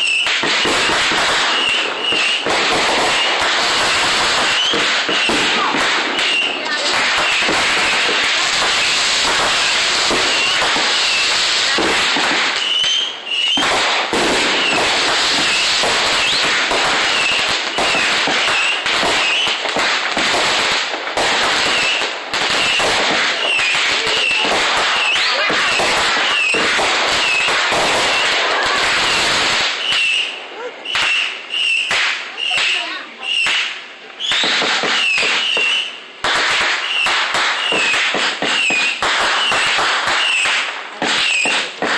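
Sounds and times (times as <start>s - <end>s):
fireworks banging and crackling: 0.0s - 41.9s
high fireworks whistling: 0.0s - 41.9s.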